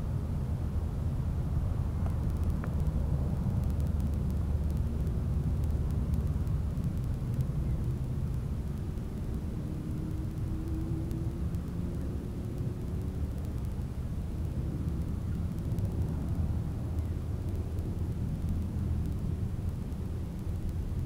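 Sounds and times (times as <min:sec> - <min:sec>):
faint drawn-out hum: 0:00.0 - 0:21.0
road traffic rumble: 0:00.0 - 0:21.0.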